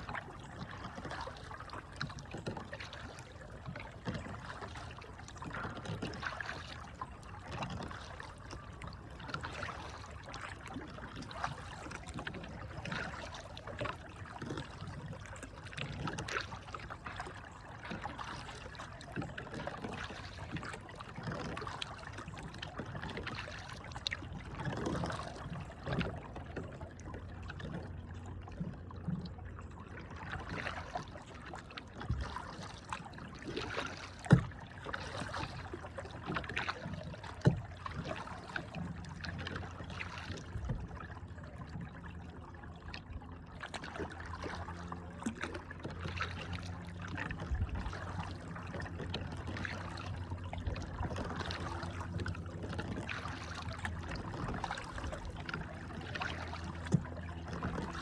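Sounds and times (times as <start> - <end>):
paddle strokes splashing in water: 0.0 - 58.0
water trickling off paddle: 0.0 - 58.0.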